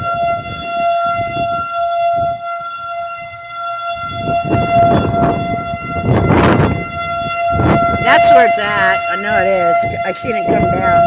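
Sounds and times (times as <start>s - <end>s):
warning siren steady tone: 0.0s - 11.0s.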